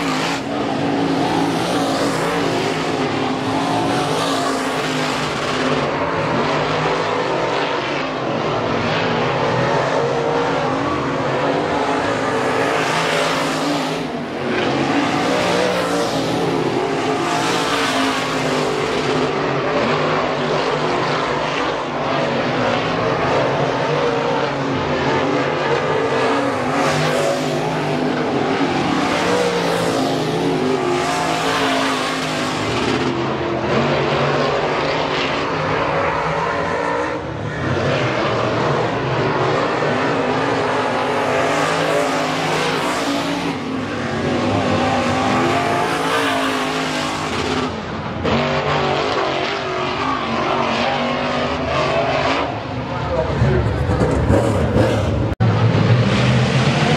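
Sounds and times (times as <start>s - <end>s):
race car engines passing: 0.0s - 56.9s.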